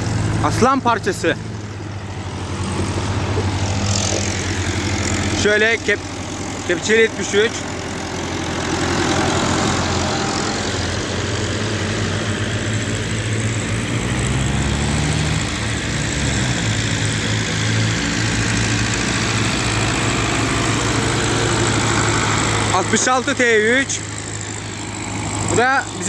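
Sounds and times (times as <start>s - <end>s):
diesel tractor engine running: 0.0s - 26.0s.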